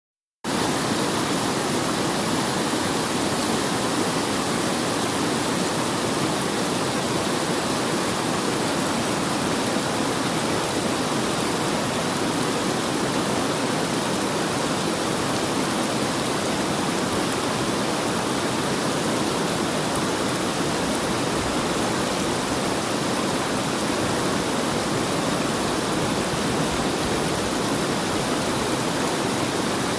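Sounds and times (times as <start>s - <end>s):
river water rushing over rocks: 0.5s - 29.9s.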